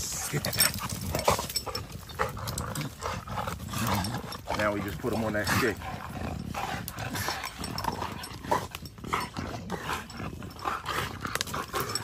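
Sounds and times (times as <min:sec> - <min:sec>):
dogs growling: 0:00.0 - 0:12.0
dogs scuffling: 0:00.0 - 0:12.0.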